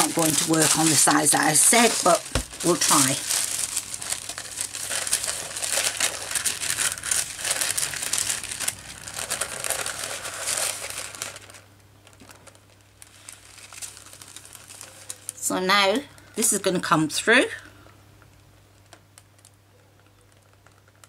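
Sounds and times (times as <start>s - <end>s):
paper and plastic sheet crinkling: 0.0s - 16.6s, 18.7s - 21.0s.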